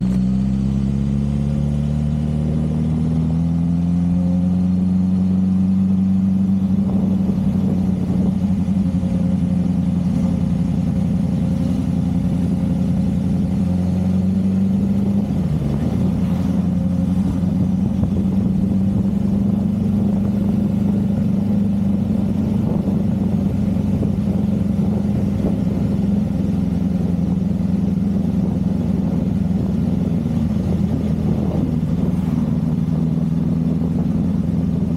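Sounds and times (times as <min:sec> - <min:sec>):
motorcycle engine: 0:00.0 - 0:34.9.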